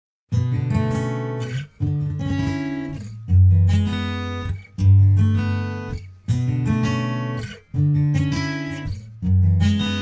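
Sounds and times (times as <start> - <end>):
strummed guitar chords: 0.3 - 10.0.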